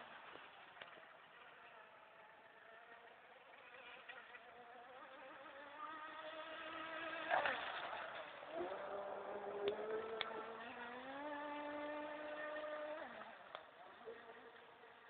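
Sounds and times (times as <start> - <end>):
model boat motor whine: 0.0 - 15.0.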